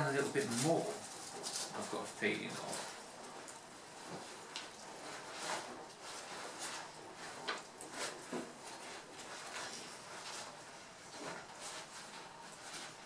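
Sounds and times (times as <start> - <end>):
fabric rustling: 0.0 - 13.0.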